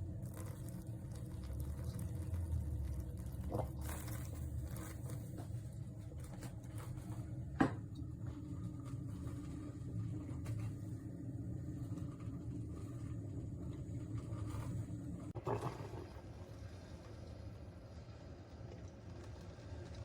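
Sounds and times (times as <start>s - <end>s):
coffee maker gurgling: 0.0s - 20.0s.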